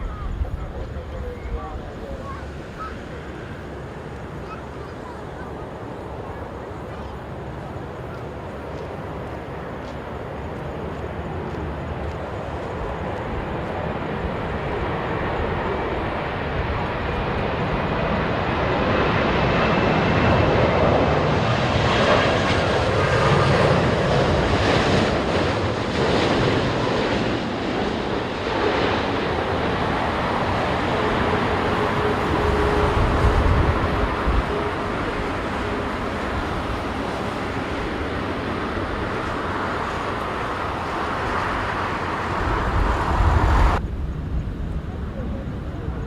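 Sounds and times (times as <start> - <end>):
jet engine noise: 0.0 - 46.0.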